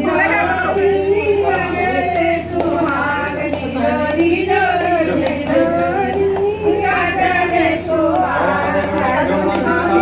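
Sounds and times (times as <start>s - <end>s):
women singing devotional song: 0.0s - 10.0s.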